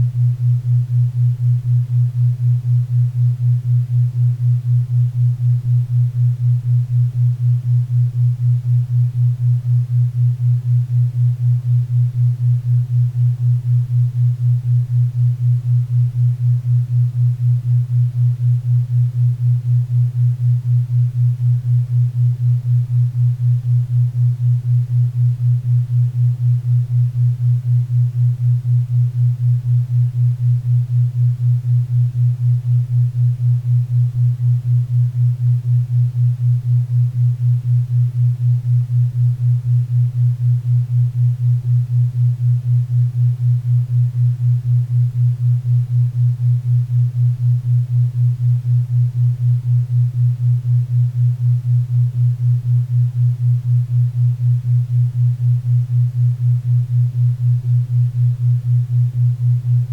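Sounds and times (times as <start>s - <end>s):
pulsing low hum tone: 0.0s - 59.9s.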